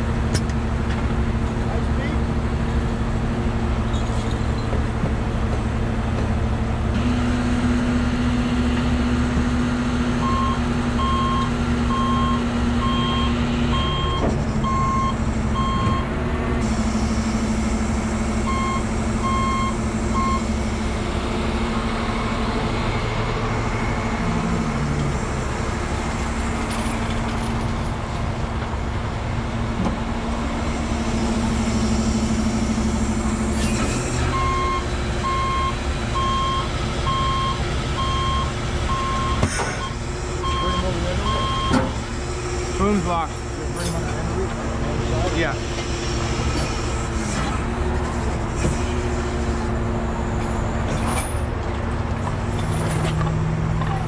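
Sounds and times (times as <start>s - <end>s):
truck engine and hydraulics drone: 0.0s - 54.0s.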